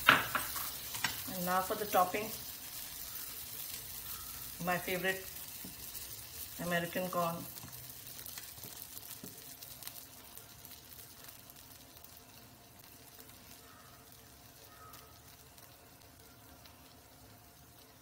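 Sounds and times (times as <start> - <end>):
batter sizzling in a pan: 0.0 - 18.0.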